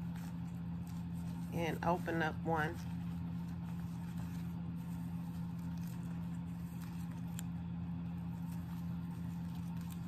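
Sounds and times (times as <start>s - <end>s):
paper sheet crinkling: 0.0s - 10.0s
steady low hum: 0.0s - 10.0s.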